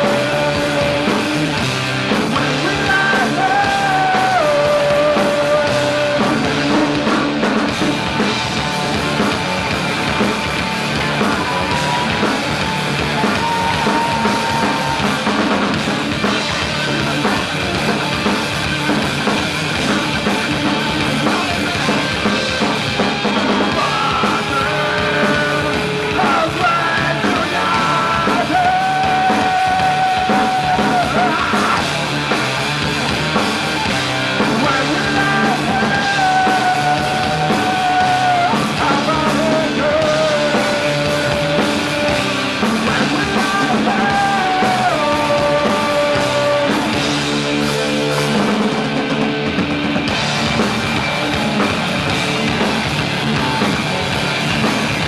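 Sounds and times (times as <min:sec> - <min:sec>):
punk rock band playing live: 0:00.0 - 0:55.0.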